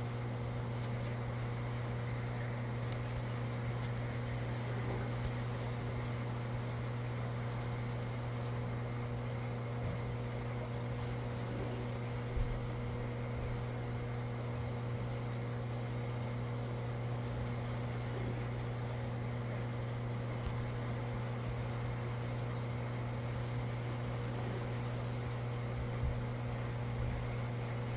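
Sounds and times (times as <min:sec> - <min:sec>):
aquarium filter pump humming: 0:00.0 - 0:27.9.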